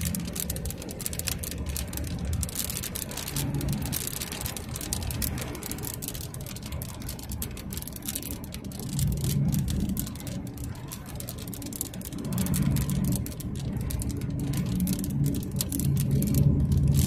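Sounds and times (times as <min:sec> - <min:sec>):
engine and tyres rumbling: 0:00.0 - 0:17.0
gravel ticking against car: 0:00.0 - 0:17.0.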